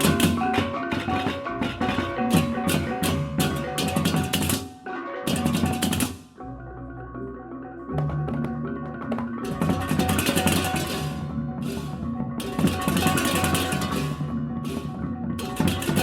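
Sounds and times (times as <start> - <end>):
gamelan percussion music: 0.0 - 16.0.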